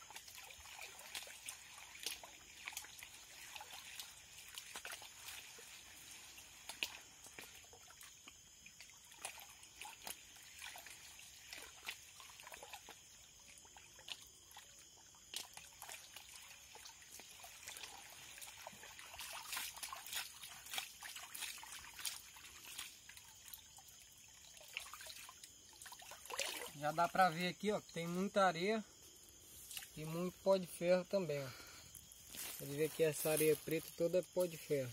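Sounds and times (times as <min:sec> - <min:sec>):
water sloshing in a pan: 0:00.0 - 0:28.0
small splashes: 0:00.0 - 0:28.3, 0:29.0 - 0:34.9.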